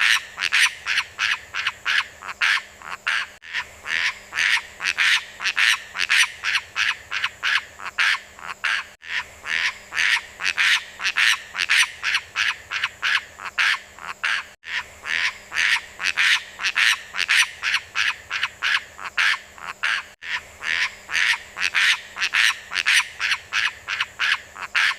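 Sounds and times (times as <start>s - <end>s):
bird calling in harsh croaks: 0.0s - 24.9s.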